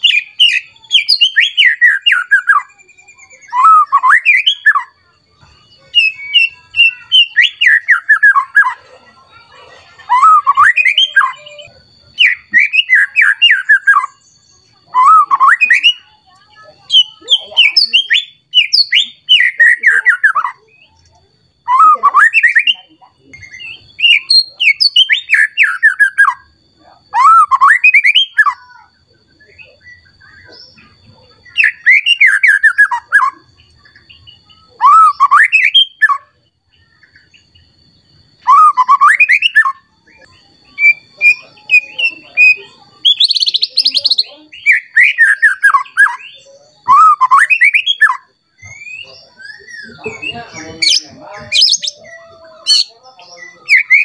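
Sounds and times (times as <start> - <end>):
songbird whistling phrases: 0.0 - 54.0.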